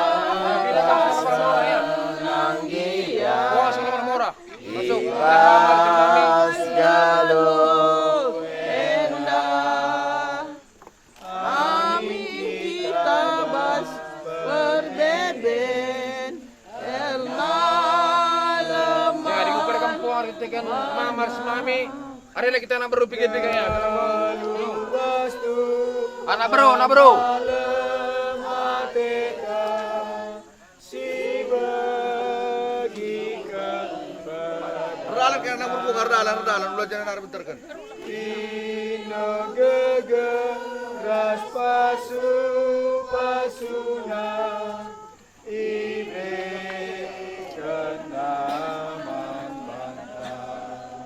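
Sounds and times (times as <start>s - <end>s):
group singing unaccompanied: 0.0s - 51.0s.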